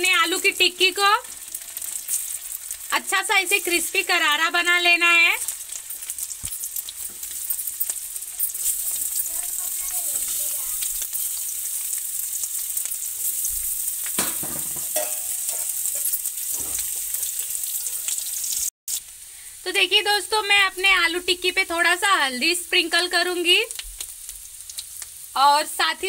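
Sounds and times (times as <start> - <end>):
food sizzling in shallow oil: 0.0 - 26.0.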